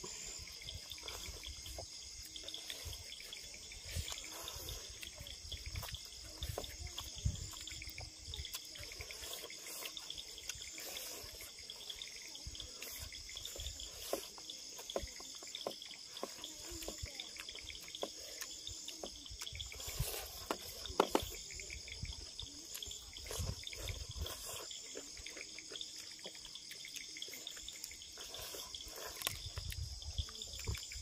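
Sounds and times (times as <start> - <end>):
crickets chirring: 0.0 - 31.0
wet chewing and lip-smacking: 0.4 - 31.0.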